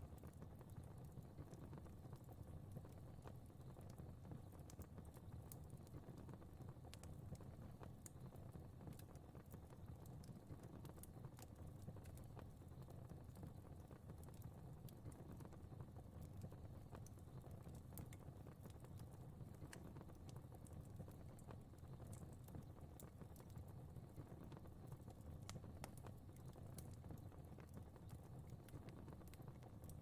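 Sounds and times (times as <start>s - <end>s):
fire crackling faintly: 0.0s - 30.0s.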